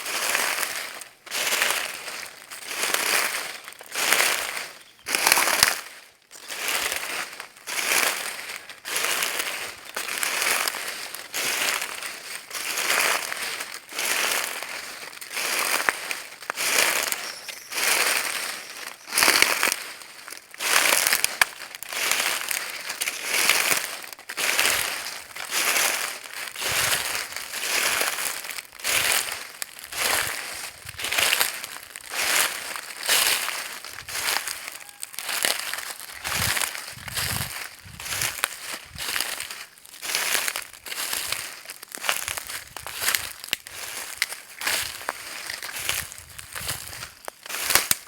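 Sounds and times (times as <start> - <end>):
footsteps in dry leaves: 0.0 - 48.0.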